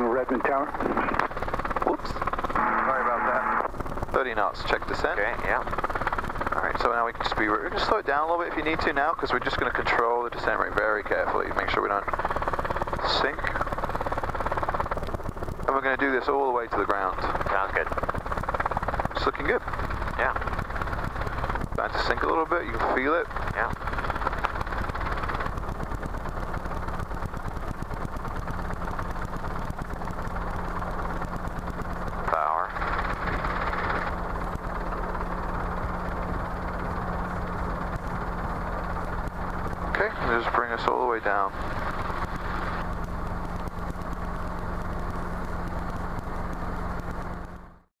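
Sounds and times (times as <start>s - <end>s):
helicopter engine and rotor: 0.0s - 47.9s
low steady hum: 0.0s - 47.9s.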